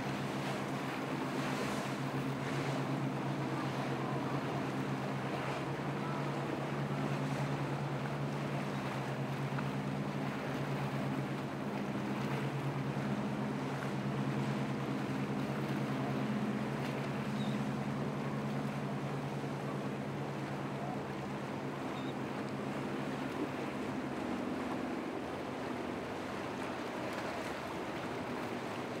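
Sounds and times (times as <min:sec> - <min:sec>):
boat engine drone: 0:00.0 - 0:29.0
wind: 0:00.0 - 0:29.0.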